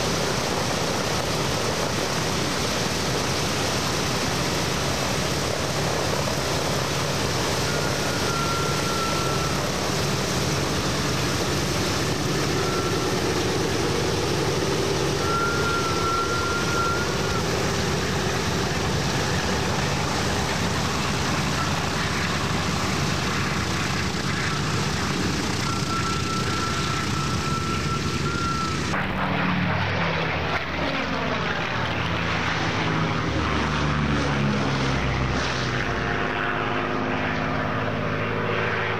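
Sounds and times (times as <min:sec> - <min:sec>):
propeller aircraft flying past: 0:00.0 - 0:38.9.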